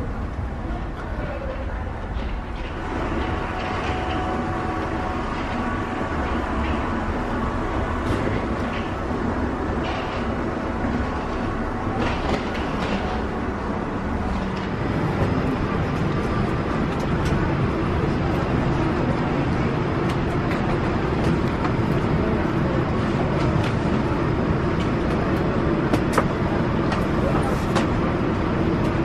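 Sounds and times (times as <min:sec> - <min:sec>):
rumbling noise: 0:00.0 - 0:27.3.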